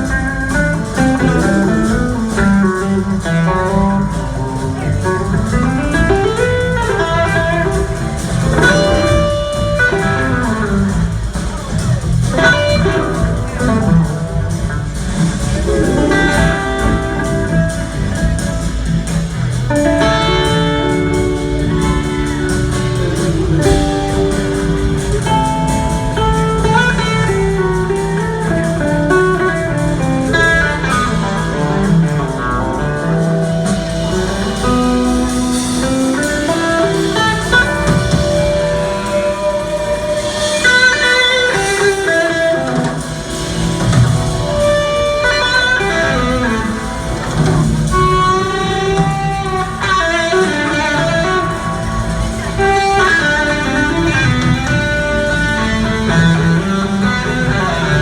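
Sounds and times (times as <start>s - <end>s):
live band guitar instrumental: 0.0s - 58.0s.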